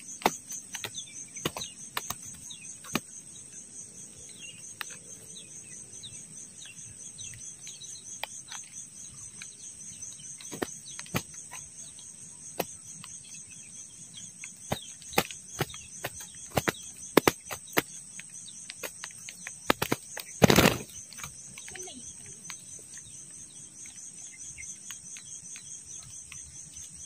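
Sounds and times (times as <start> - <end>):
insect chorus trilling: 0.0 - 27.0.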